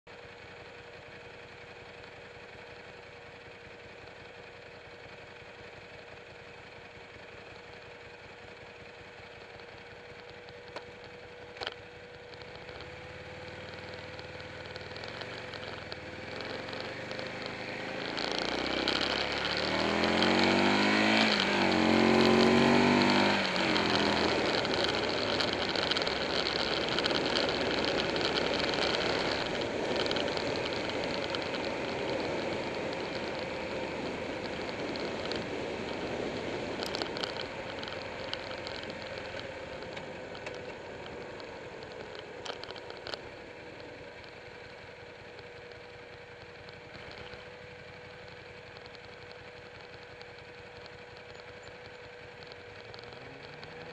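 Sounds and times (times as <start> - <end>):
motorcycle engine accelerating: 0.1 - 53.9
wind and road noise: 9.0 - 53.9.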